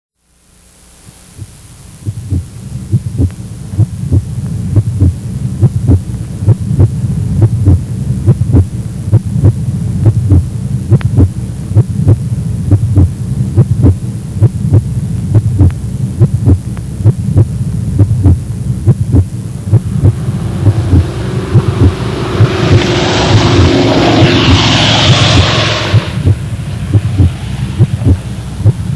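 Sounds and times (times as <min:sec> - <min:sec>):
low hum: 0:00.2 - 0:28.9
pulse of low thumps: 0:01.2 - 0:28.9
rushing noise: 0:01.4 - 0:28.9.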